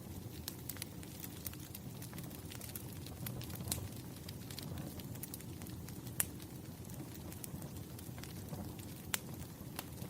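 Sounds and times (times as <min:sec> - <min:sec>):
fire pops and snaps: 0:00.0 - 0:10.0
low rumble of burning logs: 0:00.0 - 0:10.0.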